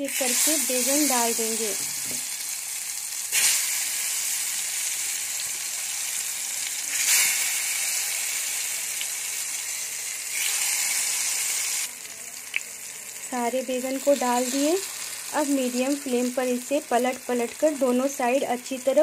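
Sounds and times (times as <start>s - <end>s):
eggplant frying in hot oil: 0.0s - 19.0s.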